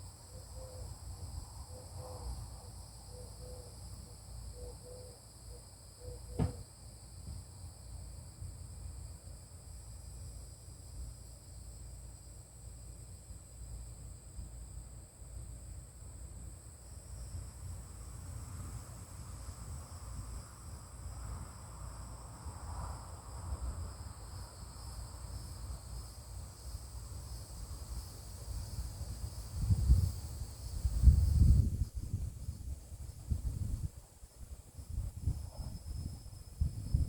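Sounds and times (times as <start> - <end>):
high insect chorus: 0.0 - 37.0.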